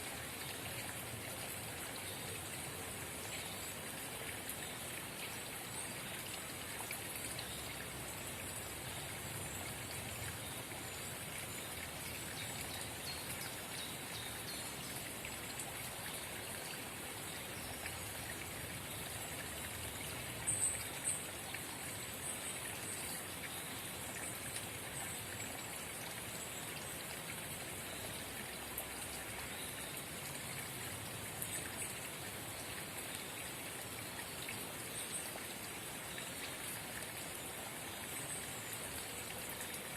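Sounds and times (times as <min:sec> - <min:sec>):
spring water babbling: 0:00.0 - 0:39.9.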